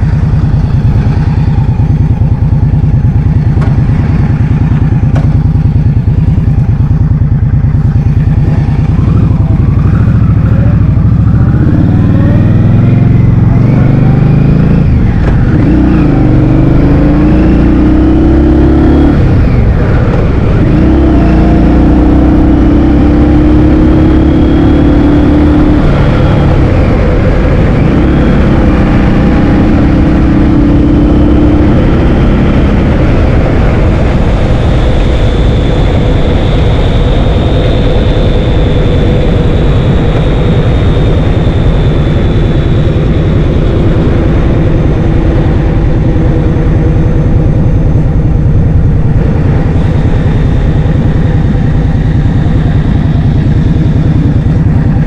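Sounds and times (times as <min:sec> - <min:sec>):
motorbike engine accelerating: 0:00.0 - 0:55.0.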